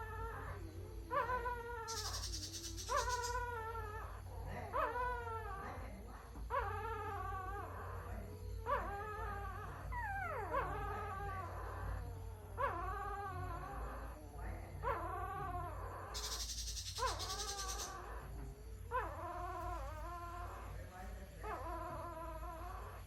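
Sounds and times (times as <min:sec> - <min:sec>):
puppy whining: 0:00.0 - 0:23.0.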